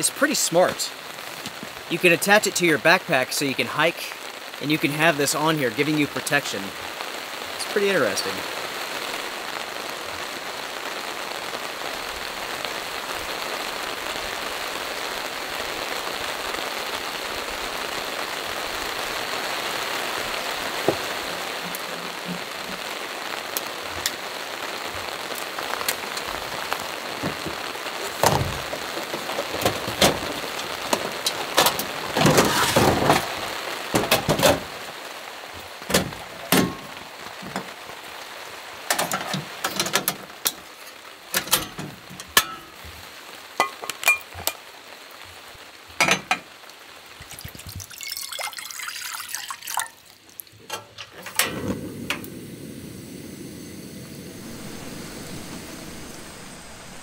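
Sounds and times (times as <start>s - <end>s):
heavy rain on leaves: 0.0s - 50.7s, 51.3s - 57.0s.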